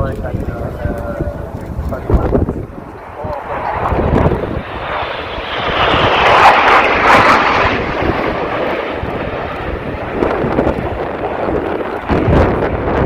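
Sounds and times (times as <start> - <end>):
aircraft flying past: 0.5 - 13.0.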